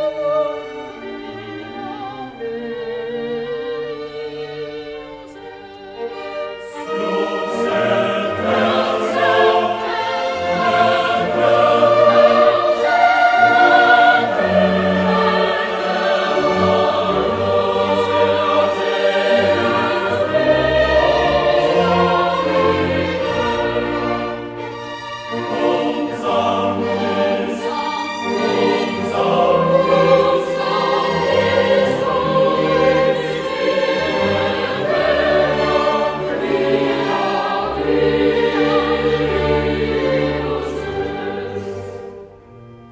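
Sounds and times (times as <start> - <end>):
choral and orchestral music: 0.0 - 42.9.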